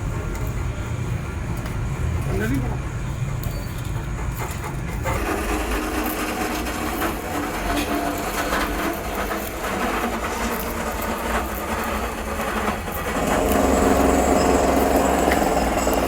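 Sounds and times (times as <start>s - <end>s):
workshop machinery running: 0.0s - 16.0s.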